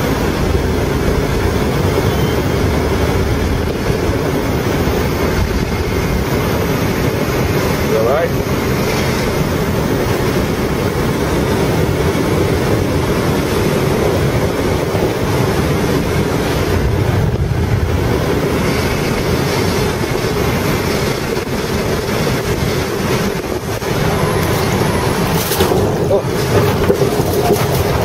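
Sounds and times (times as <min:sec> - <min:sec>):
rushing airflow in aircraft cabin: 0:00.0 - 0:28.0.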